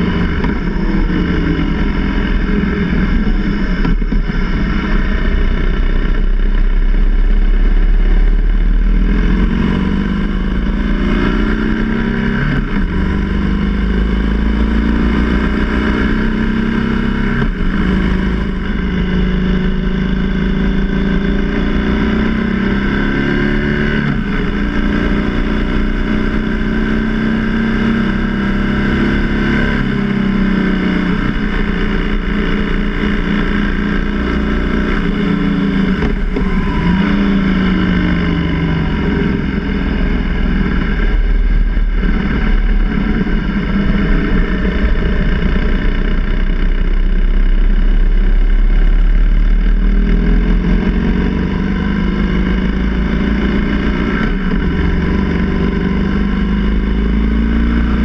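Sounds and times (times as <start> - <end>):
motorcycle engine running: 0.0 - 58.0
road noise: 0.0 - 58.0.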